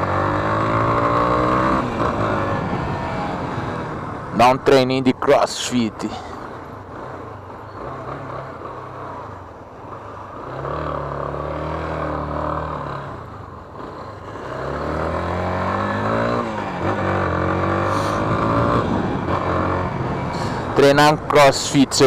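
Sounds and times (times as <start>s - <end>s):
motorcycle engine accelerating: 0.0s - 4.4s, 6.1s - 21.3s.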